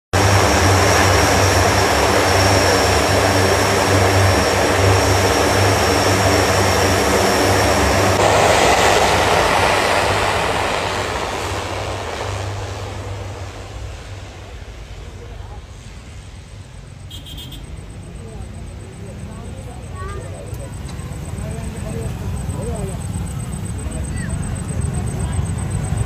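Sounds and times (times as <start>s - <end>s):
deep propeller drone: 0.1s - 26.0s
high turbine whine: 0.1s - 26.0s.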